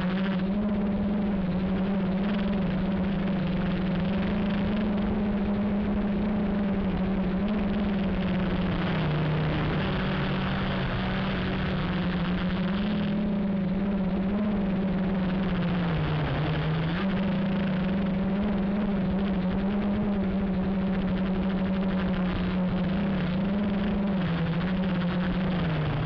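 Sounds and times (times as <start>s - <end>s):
drone motors humming: 0.0s - 26.0s.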